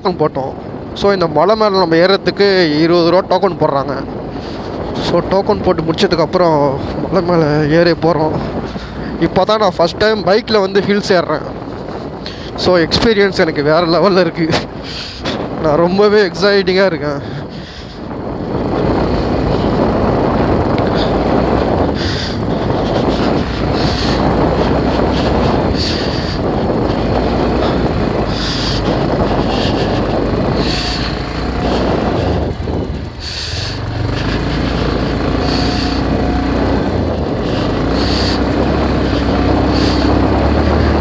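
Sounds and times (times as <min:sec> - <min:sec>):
wind noise on microphone: 0:00.0 - 0:41.0
motorcycle engine running: 0:00.2 - 0:41.0.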